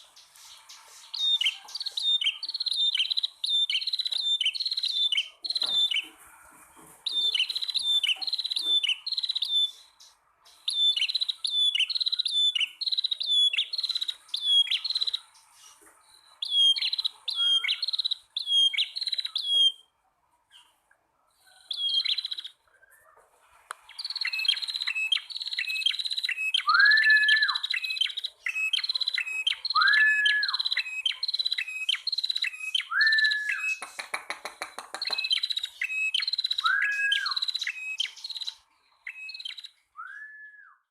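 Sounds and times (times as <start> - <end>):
bird high chirps: 0.0 - 19.9, 21.4 - 23.1, 23.8 - 40.9.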